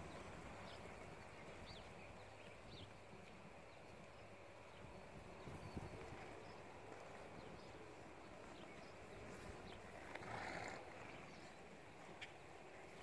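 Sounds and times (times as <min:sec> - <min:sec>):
hoofbeats on soft dirt: 0:00.0 - 0:13.0
low outdoor hush: 0:00.0 - 0:13.0.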